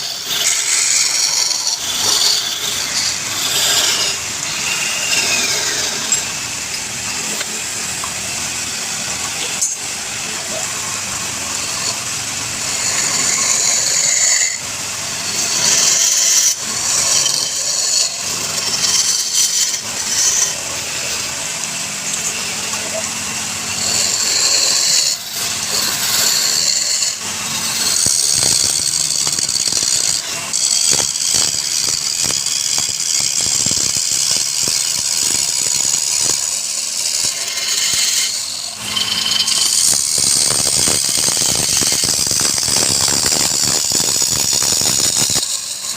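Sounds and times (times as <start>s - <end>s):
wood lathe tool scraping: 0.0s - 45.9s.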